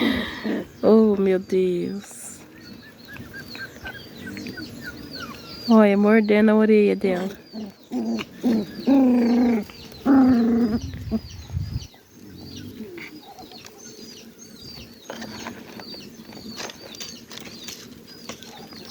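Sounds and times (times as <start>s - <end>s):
birds chirping: 0.0s - 18.9s
drawn-out pitched bird calls: 0.0s - 18.9s.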